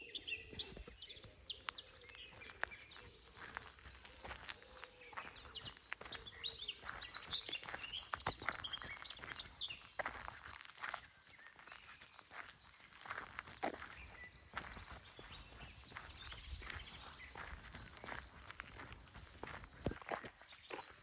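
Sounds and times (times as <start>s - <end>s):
birds chirping and singing: 0.0s - 21.0s.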